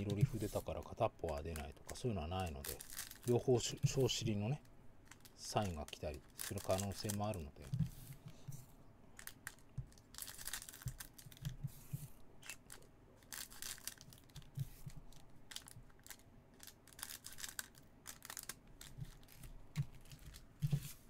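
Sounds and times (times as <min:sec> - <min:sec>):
foil wrappers crinkling: 0:00.0 - 0:07.7, 0:09.2 - 0:11.5, 0:12.4 - 0:20.4.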